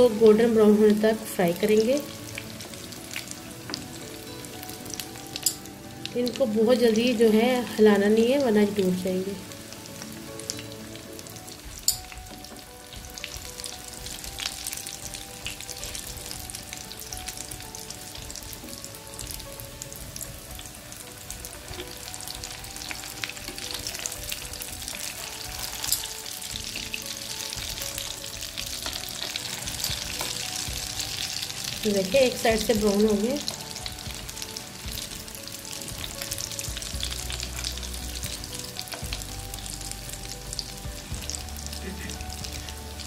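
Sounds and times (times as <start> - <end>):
food sizzling in hot oil: 0.0 - 43.0.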